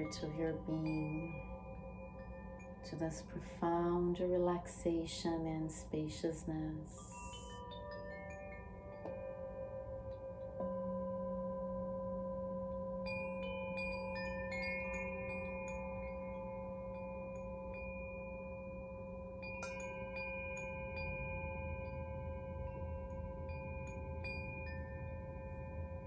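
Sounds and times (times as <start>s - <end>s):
hand chime tinkling: 0.0s - 5.0s, 6.5s - 26.0s
singing bowl ringing: 0.0s - 26.0s.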